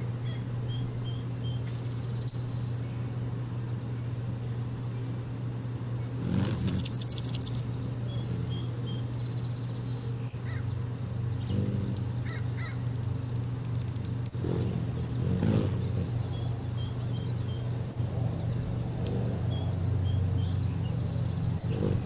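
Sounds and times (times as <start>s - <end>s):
hummingbirds chattering: 0.0s - 22.0s
steady low hum: 0.0s - 22.0s.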